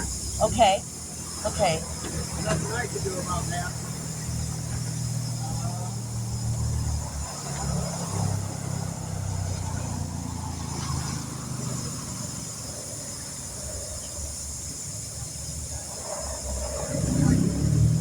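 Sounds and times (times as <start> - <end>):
constant hiss: 0.0 - 18.0
vehicle engine idling: 0.0 - 18.0.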